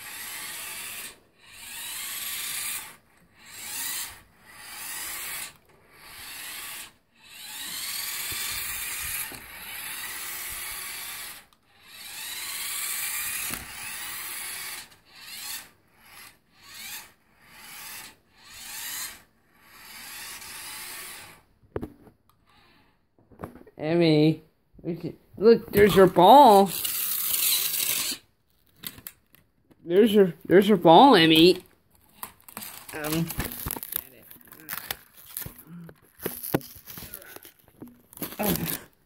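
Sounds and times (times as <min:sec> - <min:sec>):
toy car electric motor whirring: 0:00.0 - 0:21.5, 0:22.3 - 0:22.8, 0:25.7 - 0:29.4, 0:30.0 - 0:39.0.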